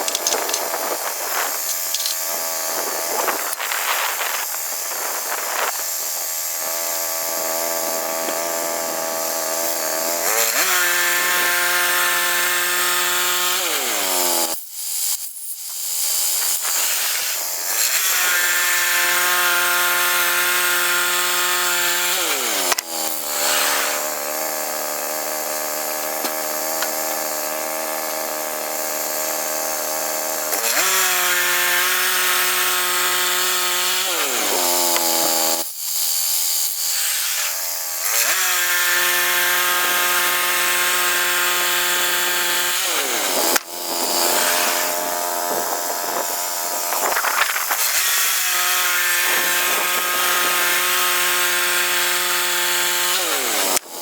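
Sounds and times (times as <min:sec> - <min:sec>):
bandsaw sawmill cutting log: 0:00.0 - 0:54.0.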